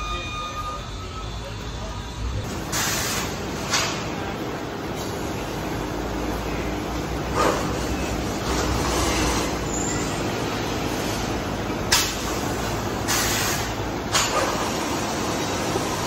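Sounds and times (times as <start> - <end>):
factory floor noise: 0.0 - 16.0.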